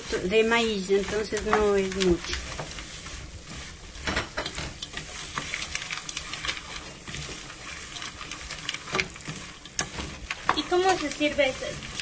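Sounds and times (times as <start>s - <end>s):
steady sizzle: 0.0s - 12.0s
wooden spoon scraping a metal pot: 0.0s - 12.0s.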